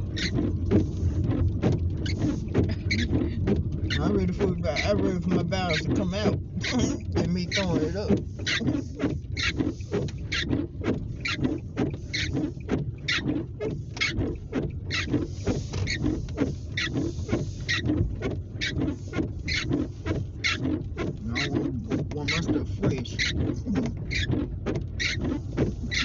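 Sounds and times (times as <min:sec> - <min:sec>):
car driving rumble: 0:00.0 - 0:26.0
windshield wipers squeaking: 0:00.0 - 0:26.0.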